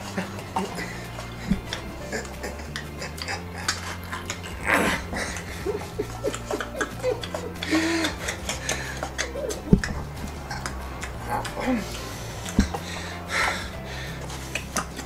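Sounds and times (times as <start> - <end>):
chopsticks clicking and scraping: 0.0 - 15.0
low background music: 0.0 - 15.0
rushing noise: 0.0 - 15.0.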